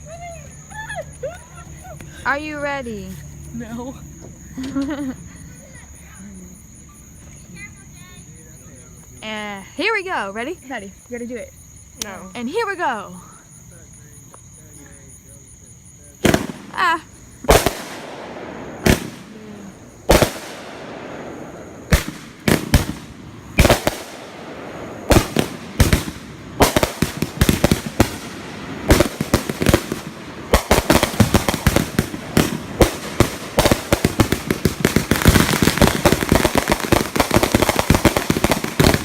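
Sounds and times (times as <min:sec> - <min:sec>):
fireworks bangs and crackles: 0:00.0 - 0:11.4, 0:12.0 - 0:39.0.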